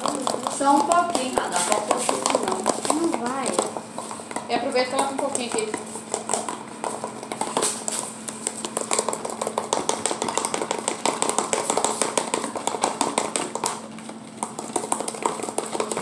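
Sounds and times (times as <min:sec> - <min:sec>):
slime stirred in plastic tub: 0:00.0 - 0:16.0.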